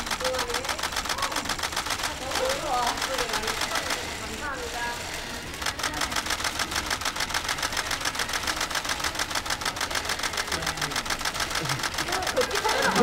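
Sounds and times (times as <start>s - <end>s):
camera shutters clicking: 0.0s - 4.2s, 5.5s - 13.0s.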